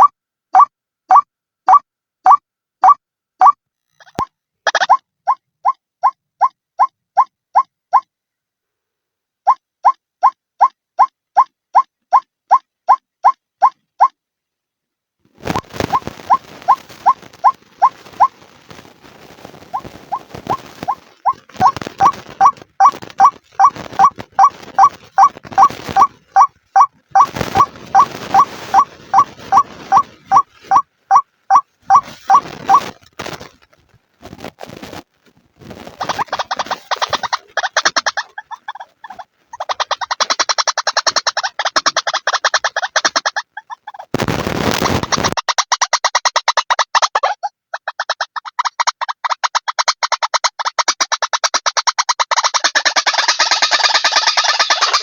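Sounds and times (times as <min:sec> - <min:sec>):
waterhen calling: 0:01.7 - 0:08.0, 0:15.5 - 0:34.9, 0:35.7 - 0:44.1, 0:44.8 - 0:55.0.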